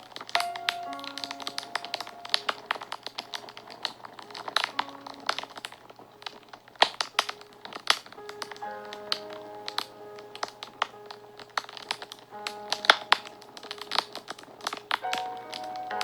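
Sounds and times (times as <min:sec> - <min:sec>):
fire crackling and popping: 0:00.0 - 0:16.0
soft music of slow held notes: 0:00.0 - 0:16.0.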